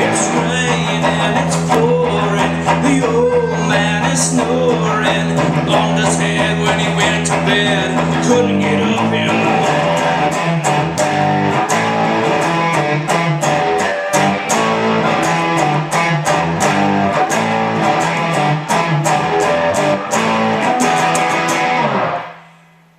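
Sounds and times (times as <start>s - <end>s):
instrumental rock music: 0.0s - 22.6s.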